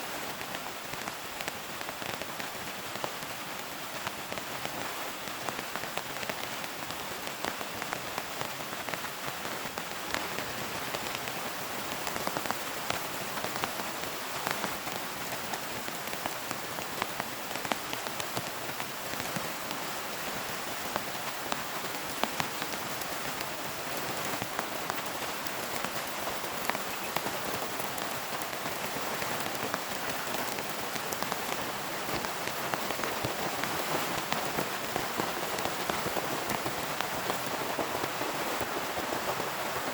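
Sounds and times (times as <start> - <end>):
heavy rain pouring: 0.3 - 39.9
raindrops striking a surface: 0.3 - 39.9.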